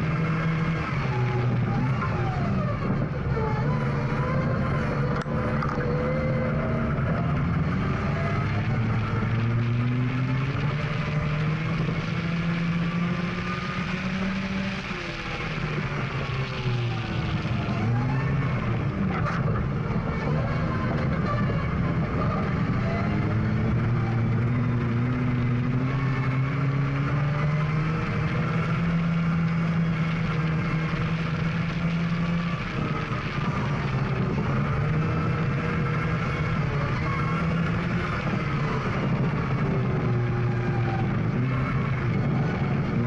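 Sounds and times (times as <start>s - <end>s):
rally car engine accelerating: 0.0s - 43.0s.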